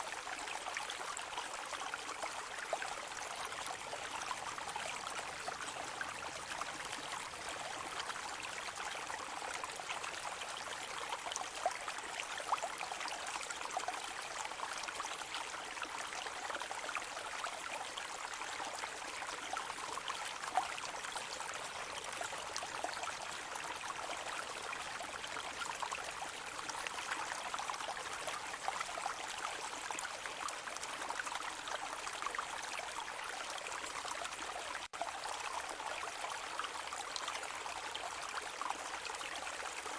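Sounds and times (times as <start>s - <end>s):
rain falling on a lake: 0.0s - 39.9s.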